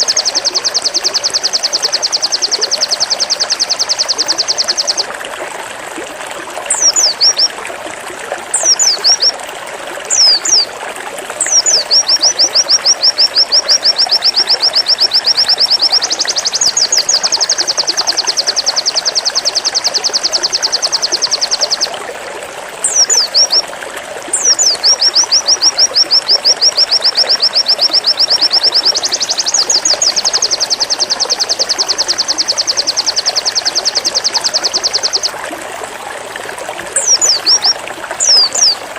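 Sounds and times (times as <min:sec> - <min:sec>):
bird song whistles and trills: 0:00.0 - 0:05.1, 0:06.7 - 0:07.6, 0:08.5 - 0:09.4, 0:10.1 - 0:10.7, 0:11.4 - 0:22.0, 0:22.8 - 0:23.7, 0:24.3 - 0:35.4, 0:36.9 - 0:38.8.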